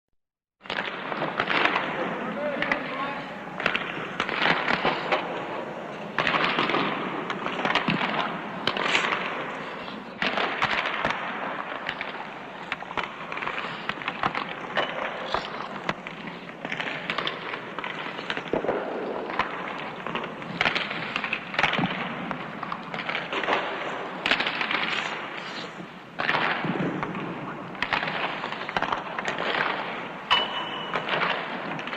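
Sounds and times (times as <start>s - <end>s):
noisy rink background: 0.6s - 31.9s
pucks cracking off boards: 0.6s - 31.9s
sticks slapping pucks: 0.7s - 31.9s.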